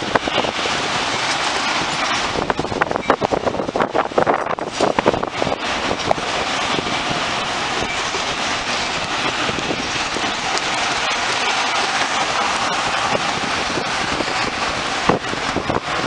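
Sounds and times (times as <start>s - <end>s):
train rushing past: 0.0s - 16.0s
train wheels clicking over rail joints: 0.0s - 16.0s.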